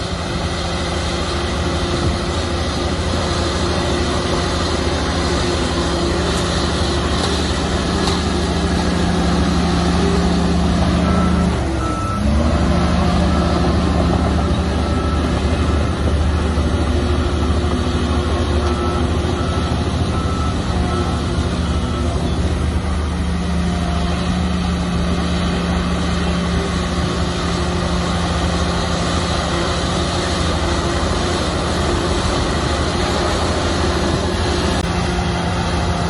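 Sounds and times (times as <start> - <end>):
bulldozer diesel engine running: 0.0 - 36.0
reversing alarm beeping: 0.5 - 35.0.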